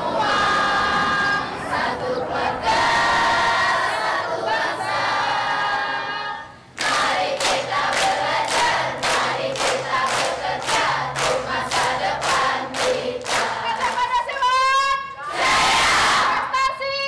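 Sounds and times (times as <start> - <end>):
crowd chanting rhythmically: 0.0 - 14.1, 15.2 - 16.5.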